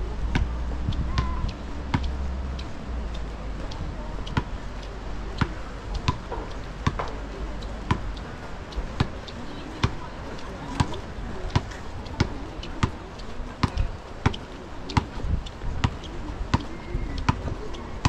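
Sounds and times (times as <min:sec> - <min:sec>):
footsteps on pavement: 0:00.0 - 0:18.0.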